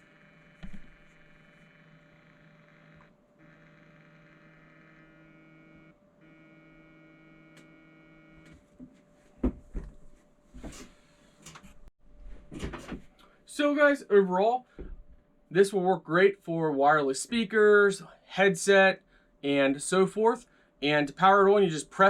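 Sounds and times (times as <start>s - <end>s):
electrical hum with fixed tones: 0.0s - 22.0s.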